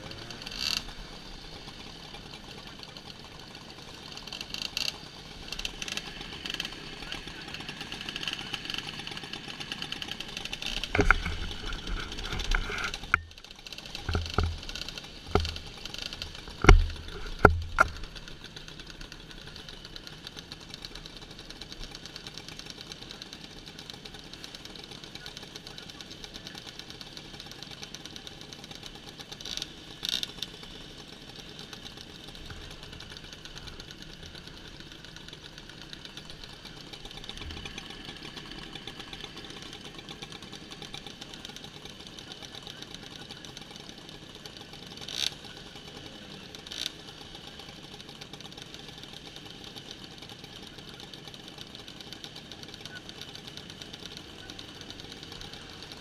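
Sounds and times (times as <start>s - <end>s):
moped engines idling: 0.0s - 56.0s.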